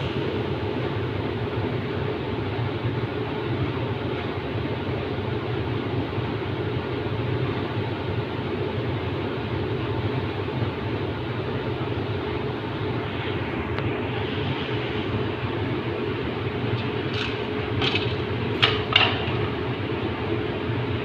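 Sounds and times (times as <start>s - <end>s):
machinery humming and rumbling: 0.0s - 21.0s.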